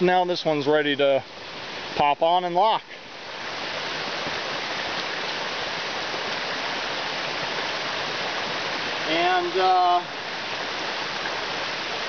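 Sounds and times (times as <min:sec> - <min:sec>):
creek water splashing over stones: 0:00.0 - 0:12.0.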